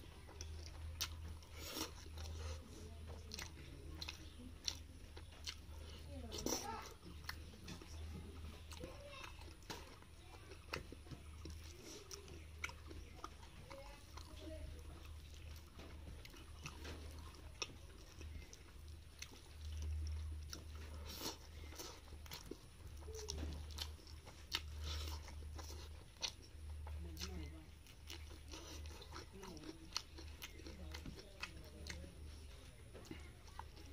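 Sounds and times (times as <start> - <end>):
moist chewing with mouth clicks: 0.0 - 33.9
steady low hum: 0.0 - 33.9.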